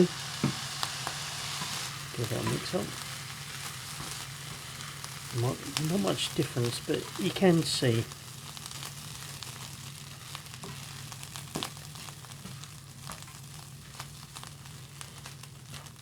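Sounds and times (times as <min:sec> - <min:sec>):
rice sizzling in a wok: 0:00.0 - 0:16.0.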